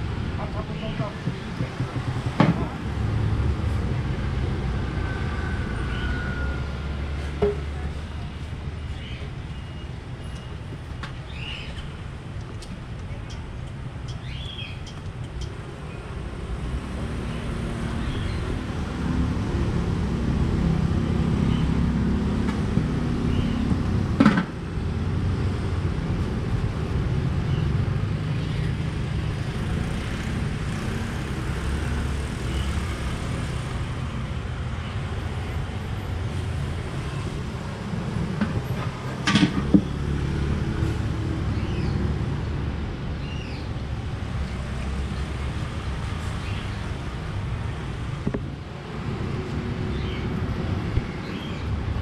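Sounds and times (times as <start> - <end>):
traffic engines rumbling: 0.0 - 52.0.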